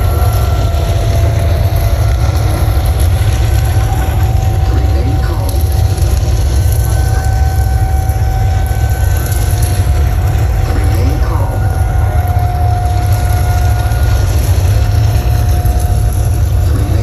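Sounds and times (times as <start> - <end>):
distorted bass: 0.0 - 17.0
faint crowd voices: 0.0 - 17.0.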